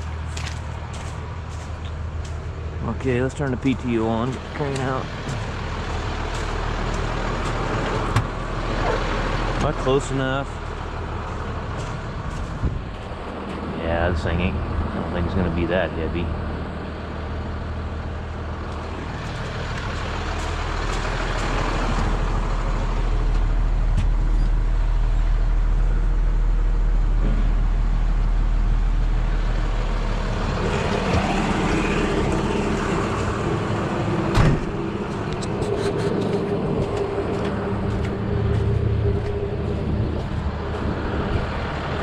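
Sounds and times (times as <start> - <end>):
truck engine running under load: 0.0 - 42.0.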